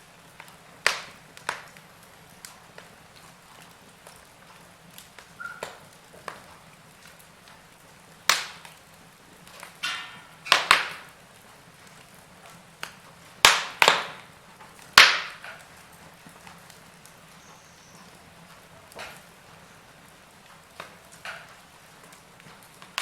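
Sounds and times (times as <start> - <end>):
wood fire crackling: 0.0 - 23.0
sharp pops and snaps: 0.3 - 11.2, 11.8 - 23.0.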